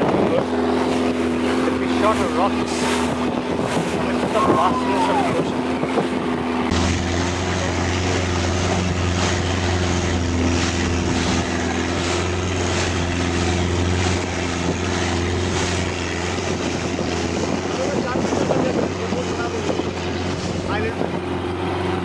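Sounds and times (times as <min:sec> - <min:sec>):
hull cutting through waves: 0:00.0 - 0:22.0
speedboat motor droning: 0:00.0 - 0:22.0
wind buffeting: 0:00.0 - 0:22.0.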